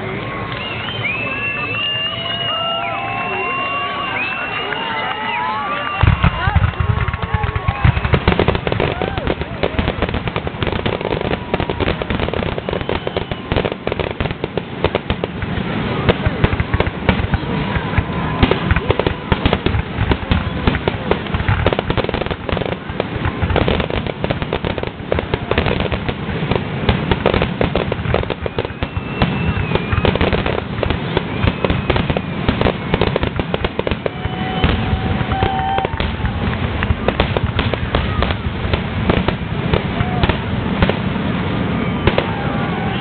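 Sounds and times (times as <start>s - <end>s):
fireworks bangs and crackling: 0.0s - 43.0s
fireworks whistling: 0.0s - 43.0s.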